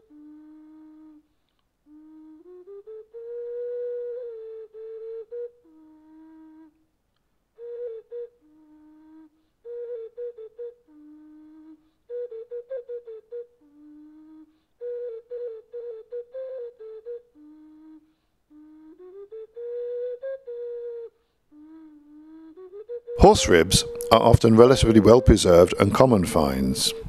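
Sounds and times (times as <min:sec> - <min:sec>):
solo flute melody: 0:00.0 - 0:27.0.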